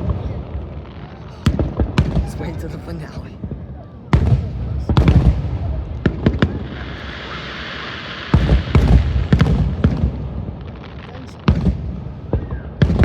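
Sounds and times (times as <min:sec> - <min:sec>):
fireworks bangs: 0:00.0 - 0:13.0
fireworks hissing crackle: 0:00.0 - 0:13.0.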